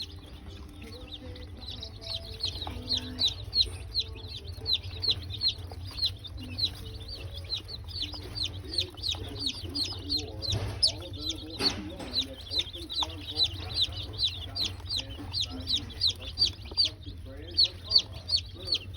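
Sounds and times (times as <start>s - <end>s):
baby chicks peeping: 0.0s - 18.9s.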